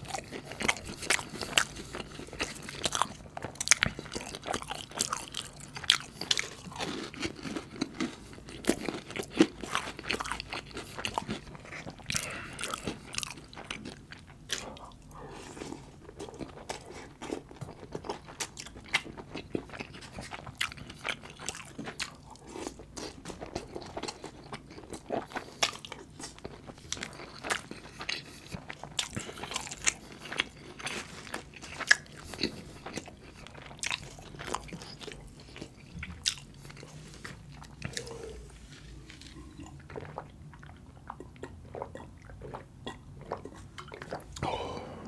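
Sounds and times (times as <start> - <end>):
close chewing: 0.0 - 44.8.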